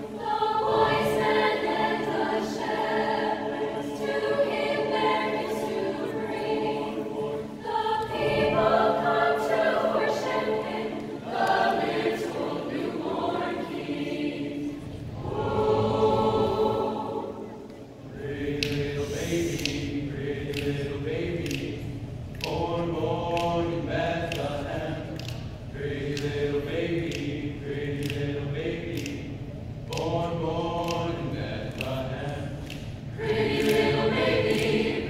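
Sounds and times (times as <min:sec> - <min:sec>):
choir singing a cappella: 0:00.0 - 0:35.0.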